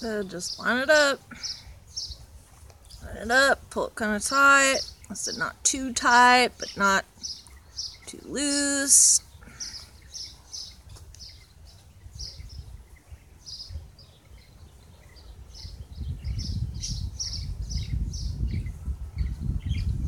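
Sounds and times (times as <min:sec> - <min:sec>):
bird chirping: 0:00.0 - 0:03.3, 0:04.0 - 0:20.0.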